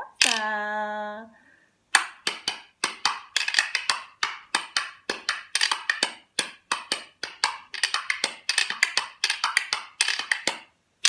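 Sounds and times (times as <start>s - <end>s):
wooden spoons clacking: 0.2s - 0.5s, 1.9s - 10.7s.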